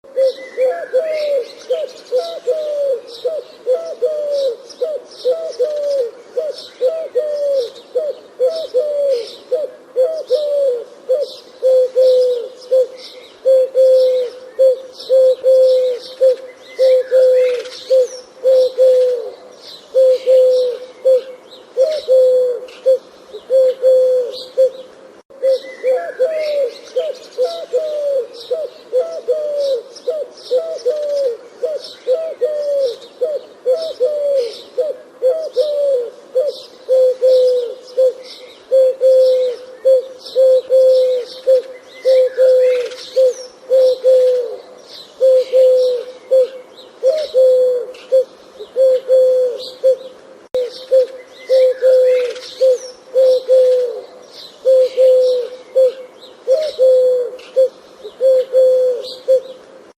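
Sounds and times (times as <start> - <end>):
dove cooing: 0.0 - 59.9
small birds chirping: 0.1 - 59.7.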